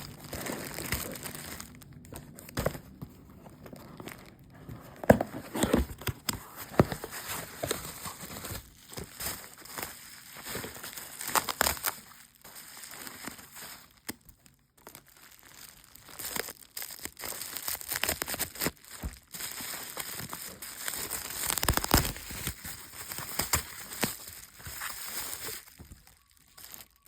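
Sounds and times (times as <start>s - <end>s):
plastic packaging crinkling and tearing: 0.0s - 27.0s.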